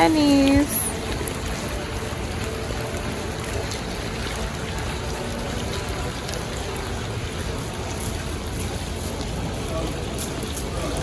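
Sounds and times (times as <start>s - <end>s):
fountain water jets splashing: 0.0s - 11.0s.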